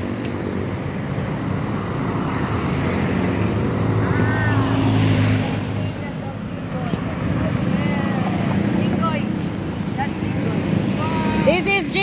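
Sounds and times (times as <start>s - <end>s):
vehicle engine passing: 1.4s - 12.0s.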